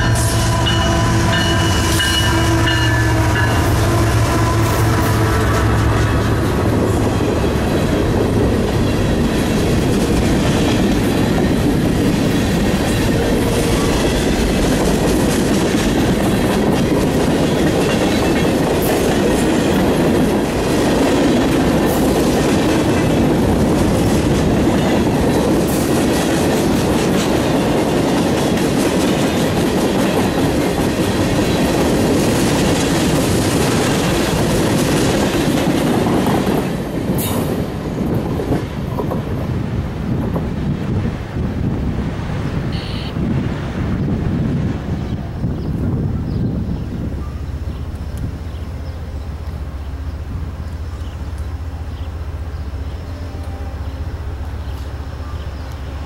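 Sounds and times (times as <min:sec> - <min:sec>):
clickety-clack over rail joints: 0:00.0 - 0:47.0
steel wheels on rail: 0:00.0 - 0:56.0.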